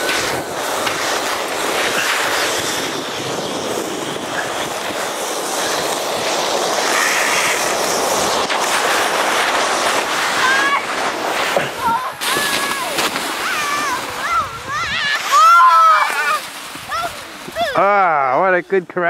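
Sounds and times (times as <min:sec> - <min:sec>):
wind on microphone: 0:00.0 - 0:18.2
sliding on icy snow: 0:00.0 - 0:19.0.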